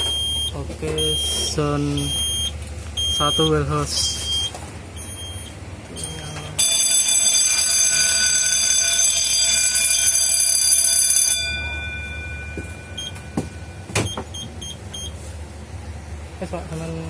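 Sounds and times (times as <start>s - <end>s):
fire alarm bell ringing: 0.0s - 15.1s.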